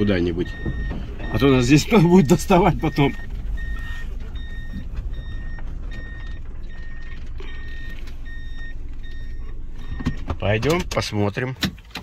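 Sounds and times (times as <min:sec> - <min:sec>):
reverse warning beeping: 0:00.0 - 0:10.8
low engine and road rumble: 0:00.0 - 0:12.0.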